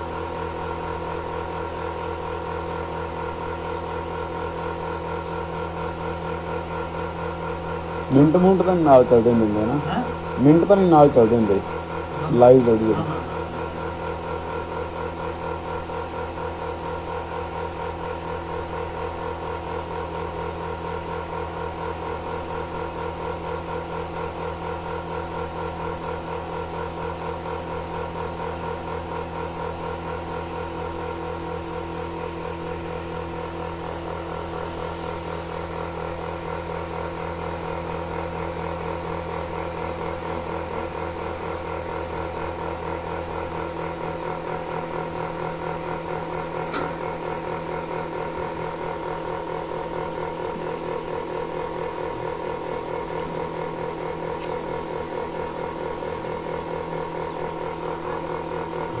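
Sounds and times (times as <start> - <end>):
milking machine pulsing hum: 0.0 - 59.0.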